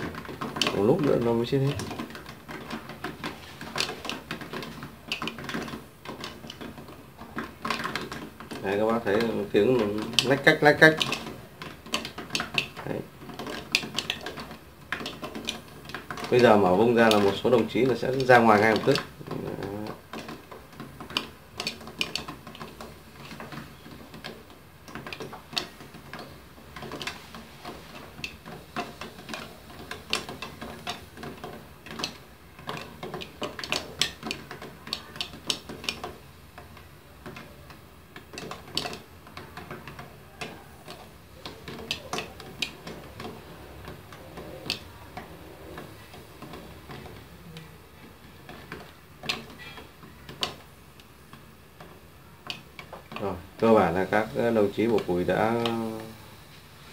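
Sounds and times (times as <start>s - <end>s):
beetles clicking against pan lid: 0.0s - 56.5s.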